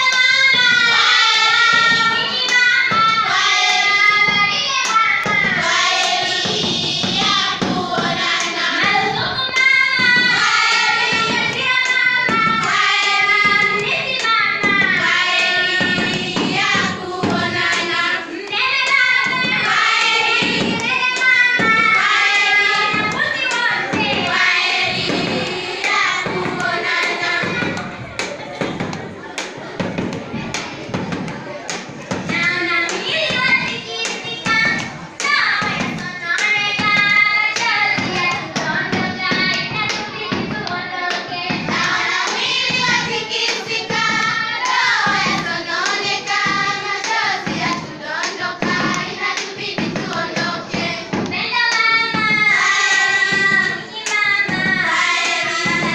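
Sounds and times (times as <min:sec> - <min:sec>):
children singing: 0:00.0 - 0:55.9
hands clapping in rhythm: 0:00.0 - 0:55.9.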